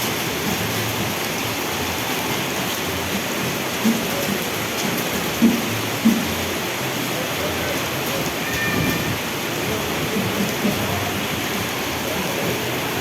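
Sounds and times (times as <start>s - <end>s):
heavy rain on hard surfaces: 0.0s - 13.0s.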